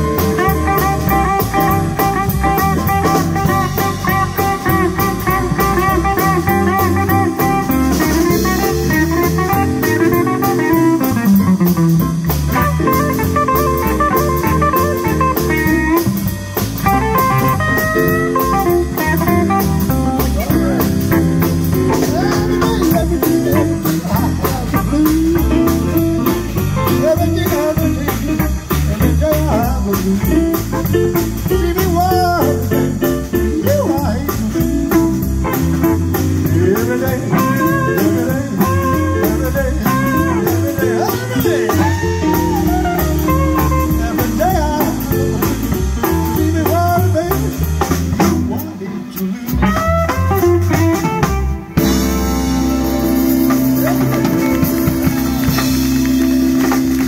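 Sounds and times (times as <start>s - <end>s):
electric blues band playing: 0.0s - 57.0s
lead guitar with bent notes: 0.0s - 57.0s.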